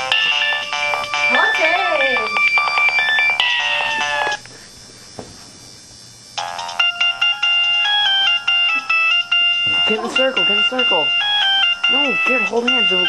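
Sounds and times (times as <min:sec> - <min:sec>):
mobile phone ringtones: 0:00.0 - 0:04.4, 0:06.4 - 0:13.0.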